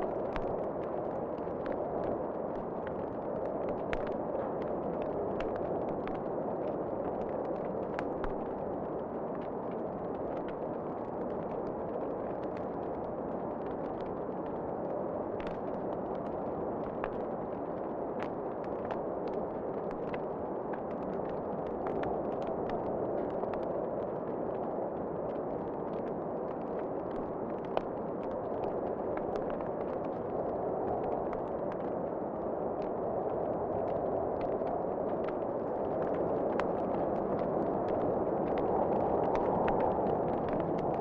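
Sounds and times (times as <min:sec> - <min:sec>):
fire crackling and popping: 0:00.0 - 0:41.0.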